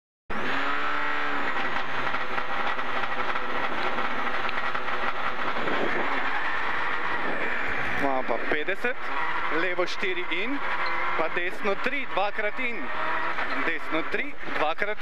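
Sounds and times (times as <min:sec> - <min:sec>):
rally car engine idling: 0:01.3 - 0:15.0.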